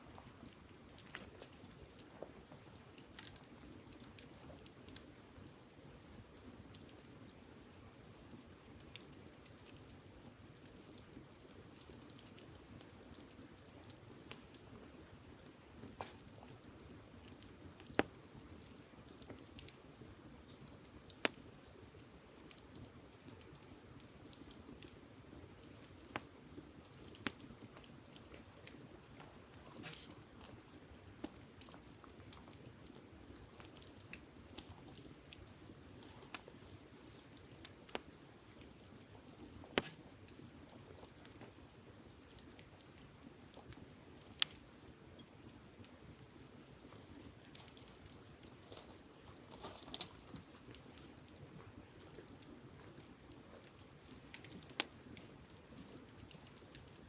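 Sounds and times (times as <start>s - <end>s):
campfire crackling: 0.0s - 57.0s
faint steady hiss: 0.0s - 57.0s.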